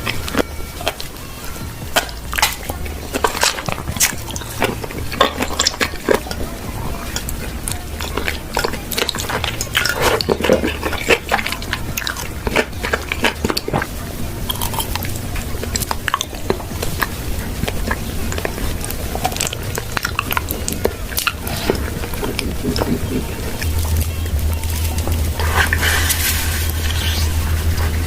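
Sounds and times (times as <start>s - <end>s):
chewing with crisp crunching: 0.0s - 28.0s
steady low hum: 0.0s - 28.0s.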